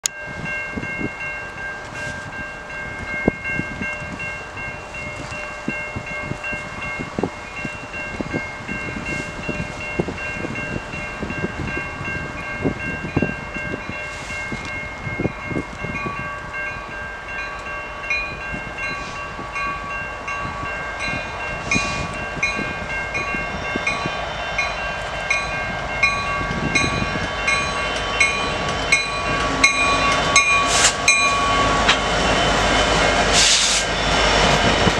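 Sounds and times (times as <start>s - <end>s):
level crossing bells ringing: 0.0s - 32.6s
diesel train rumble: 0.2s - 34.9s.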